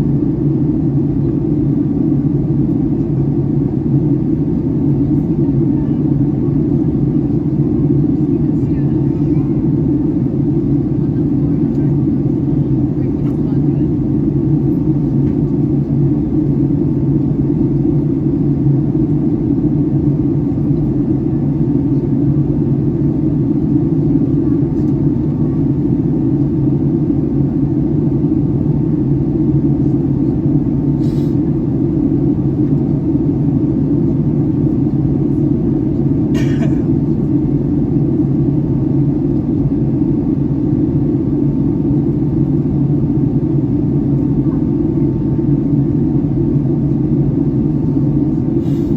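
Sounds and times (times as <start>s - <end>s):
airliner cabin roar: 0.0s - 48.9s.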